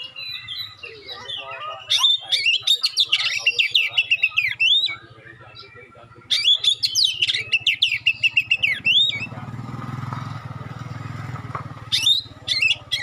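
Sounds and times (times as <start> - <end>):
bird singing sharp whistled notes: 0.0 - 9.4, 11.9 - 13.0
motorcycle engine passing: 0.0 - 13.0.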